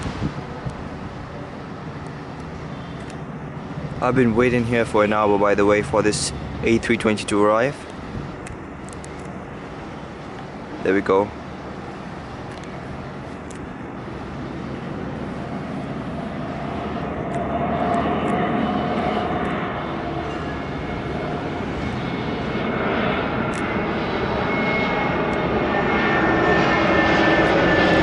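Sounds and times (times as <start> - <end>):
jet airliner engine noise: 0.0 - 28.0
steady whine: 0.0 - 28.0.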